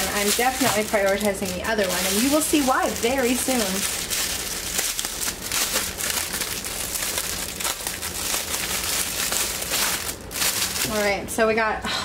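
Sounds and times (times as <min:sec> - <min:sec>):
plastic bags crinkling: 0:00.0 - 0:11.2.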